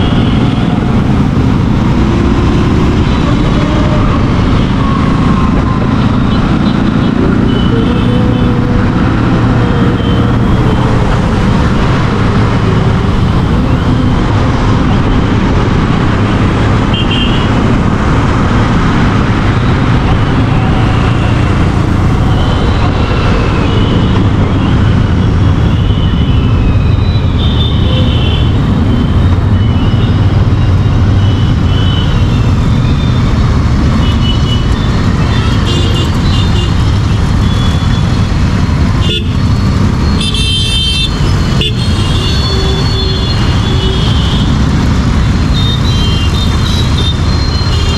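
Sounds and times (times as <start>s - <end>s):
road traffic noise: 0.0s - 47.9s.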